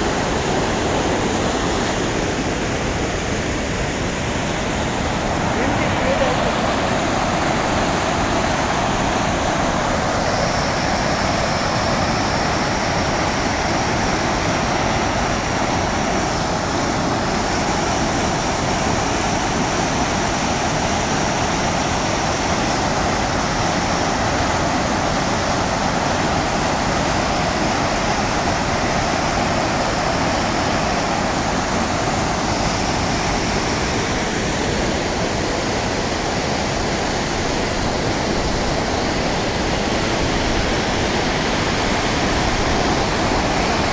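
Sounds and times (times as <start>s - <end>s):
floodwater rushing over weir: 0.0s - 43.9s.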